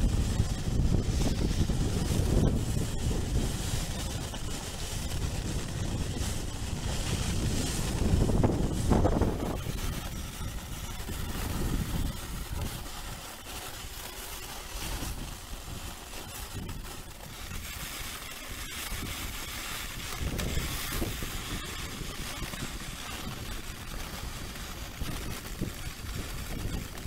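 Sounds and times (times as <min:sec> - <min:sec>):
sled runners scraping snow: 0:00.0 - 0:27.0
wind buffeting microphone: 0:00.0 - 0:27.0.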